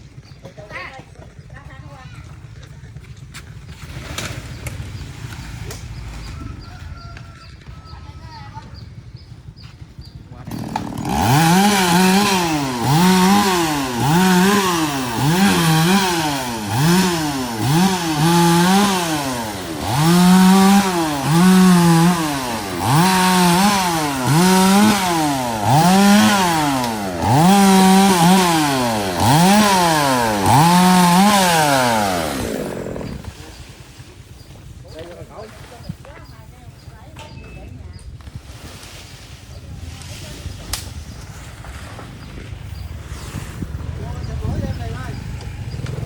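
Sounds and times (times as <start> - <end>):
chainsaw revving: 2.2 - 8.0, 8.7 - 35.2, 40.0 - 46.0.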